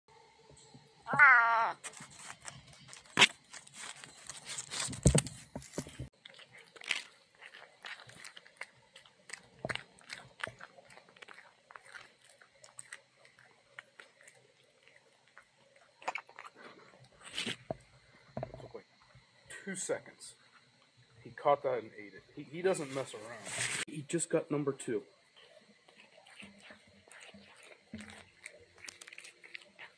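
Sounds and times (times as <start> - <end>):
cat chewing and crunching: 1.8 - 21.1, 22.6 - 29.9.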